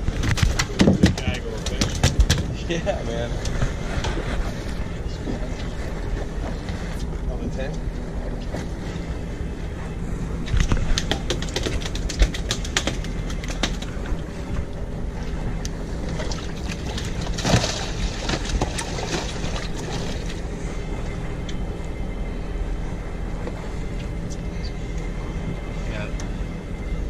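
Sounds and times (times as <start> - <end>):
boat engine humming: 0.0 - 27.0.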